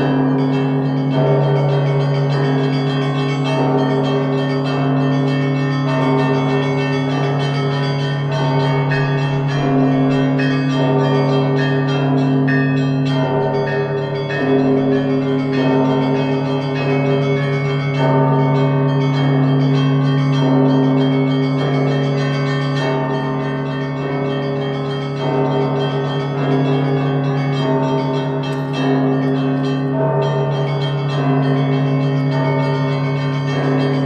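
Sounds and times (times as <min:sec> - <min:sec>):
deep hum of large bells: 0:00.0 - 0:34.0
mid-sized bells ringing: 0:00.0 - 0:34.0.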